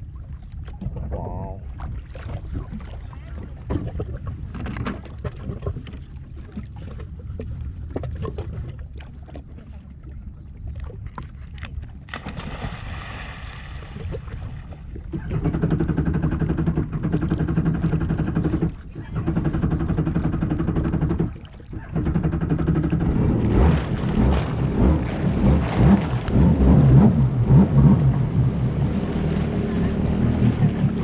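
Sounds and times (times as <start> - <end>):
jet ski engine on water: 0.0 - 31.0.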